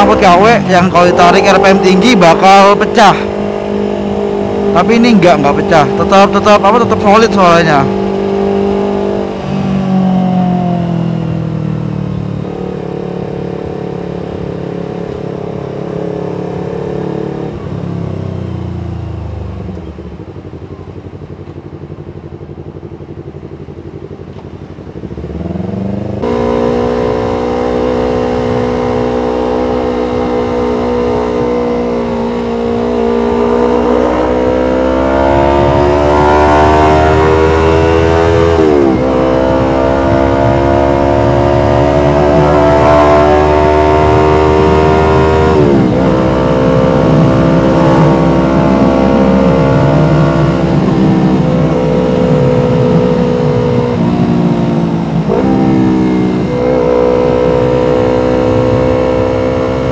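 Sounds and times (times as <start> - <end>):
motorcycle engine revving and idling: 0.0 - 59.9.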